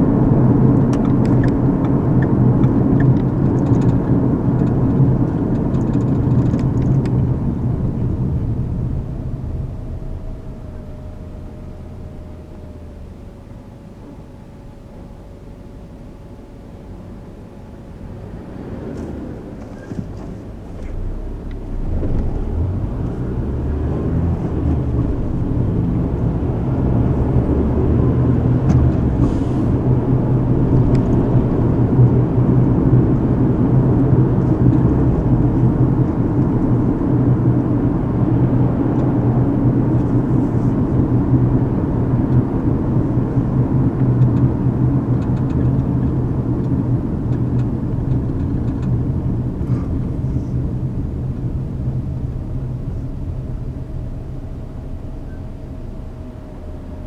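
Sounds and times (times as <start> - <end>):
car engine rumble: 0.0 - 57.0
tyres on the road: 0.0 - 57.0.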